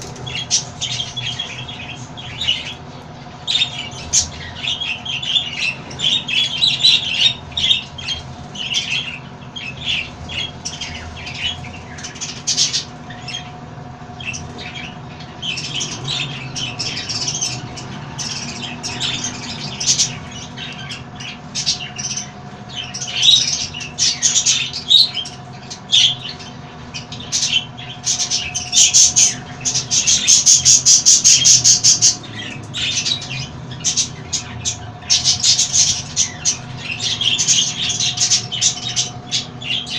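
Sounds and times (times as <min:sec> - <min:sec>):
parrots squawking: 0:00.0 - 0:39.9.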